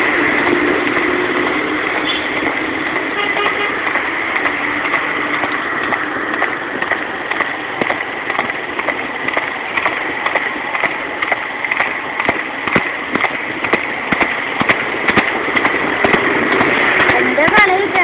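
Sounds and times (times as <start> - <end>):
hooves clip-clopping on asphalt: 0.0 - 18.0
vehicle and road noise: 0.0 - 18.0.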